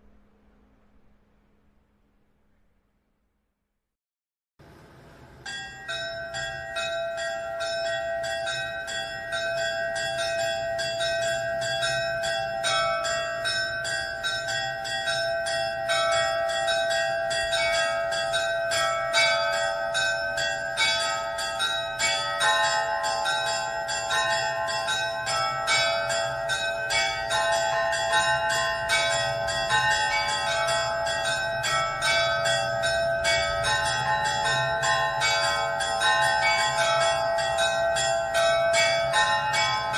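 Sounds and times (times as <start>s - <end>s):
church bells pealing: 5.4s - 39.9s.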